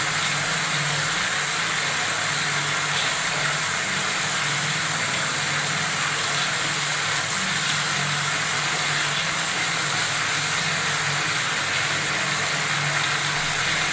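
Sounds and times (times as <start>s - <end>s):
water running from a tap: 0.0s - 13.9s.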